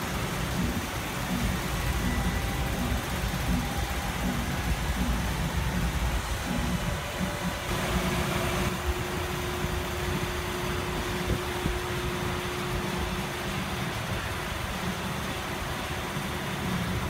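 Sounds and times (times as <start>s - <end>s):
faint constant tone: 0.0s - 17.0s
machinery humming: 0.0s - 17.0s.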